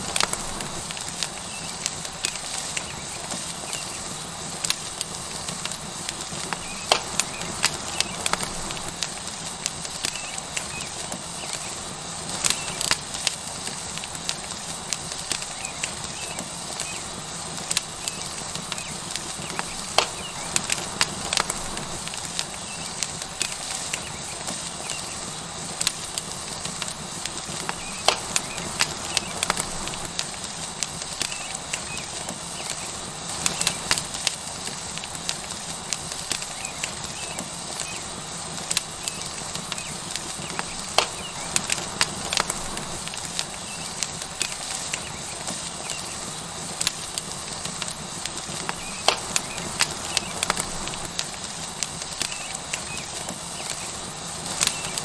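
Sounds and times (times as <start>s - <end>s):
steak sizzling on hot rock: 0.0s - 55.0s
wood fire crackling and popping: 0.0s - 55.0s.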